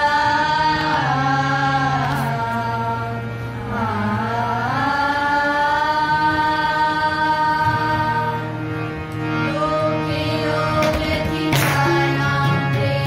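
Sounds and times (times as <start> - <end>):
girls singing together: 0.0 - 8.5, 9.4 - 13.0
steady low drone: 0.0 - 13.0.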